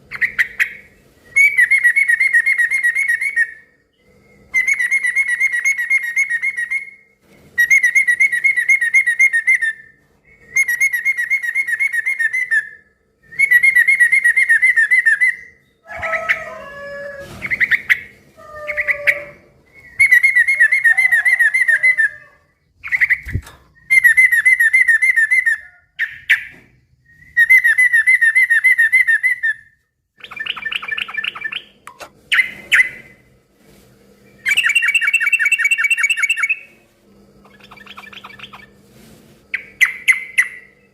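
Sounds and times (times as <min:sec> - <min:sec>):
rough bird chirps and calls: 0:00.0 - 0:07.0, 0:07.6 - 0:33.3, 0:34.2 - 0:36.8, 0:37.4 - 0:38.8, 0:39.5 - 0:40.9.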